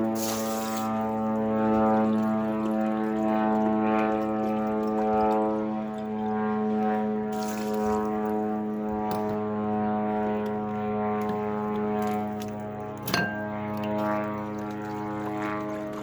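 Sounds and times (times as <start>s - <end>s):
drone buzzing overhead: 0.0s - 16.0s.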